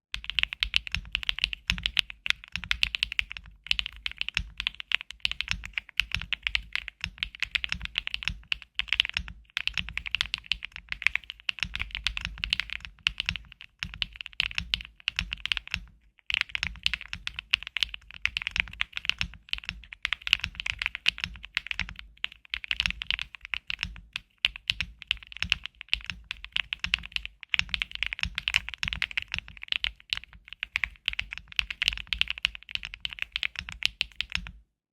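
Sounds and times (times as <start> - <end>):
mechanical keyboard typing: 0.2 - 34.6.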